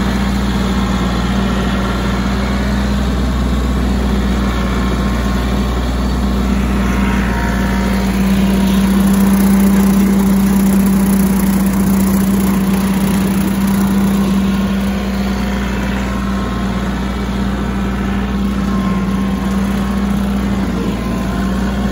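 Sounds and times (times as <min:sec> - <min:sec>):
rotary cutter cutting grass: 0:00.0 - 0:21.9
tractor diesel engine droning: 0:00.0 - 0:21.9.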